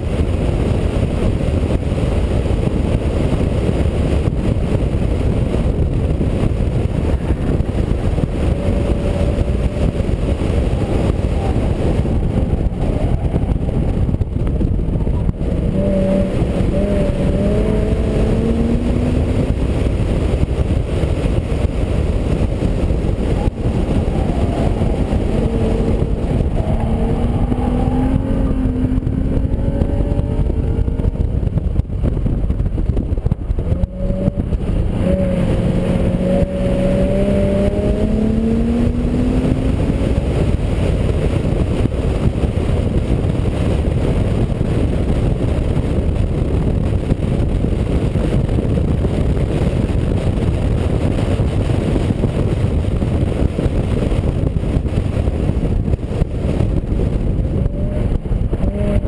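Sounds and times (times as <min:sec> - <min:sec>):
wind buffeting a camera: 0:00.0 - 0:59.0
car engine accelerating: 0:02.6 - 0:59.0.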